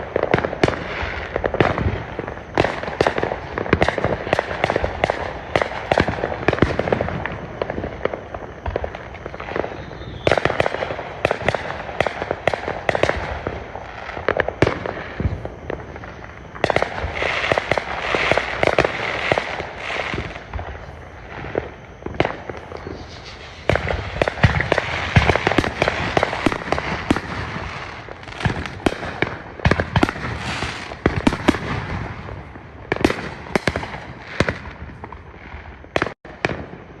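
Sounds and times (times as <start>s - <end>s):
dense fireworks crackling: 0.0s - 37.0s
fireworks bangs and cracks: 0.0s - 37.0s.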